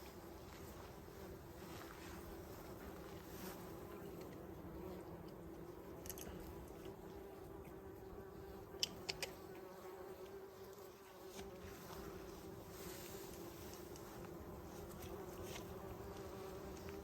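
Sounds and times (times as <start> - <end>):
bees buzzing: 0.2 - 17.0.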